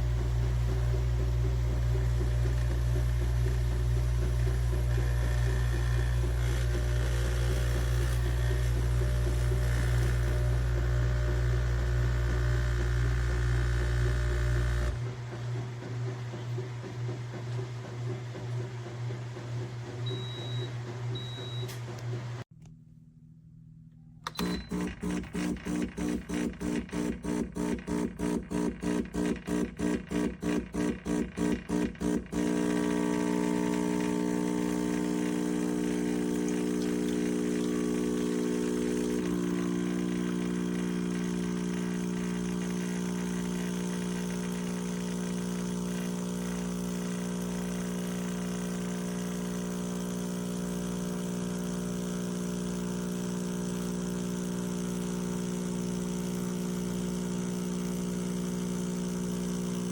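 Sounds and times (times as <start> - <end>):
espresso machine pump humming: 0.0 - 22.4, 24.3 - 59.9.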